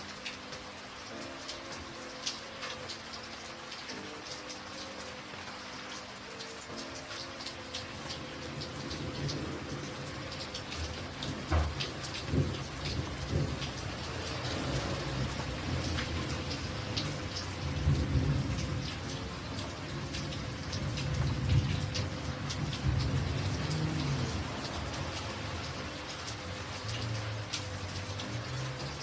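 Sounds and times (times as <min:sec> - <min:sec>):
raindrops ticking on a surface: 0:00.0 - 0:29.0.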